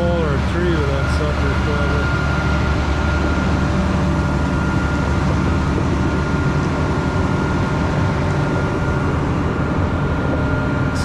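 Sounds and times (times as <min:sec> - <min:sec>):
combine harvester engine rumble: 0:00.0 - 0:11.0.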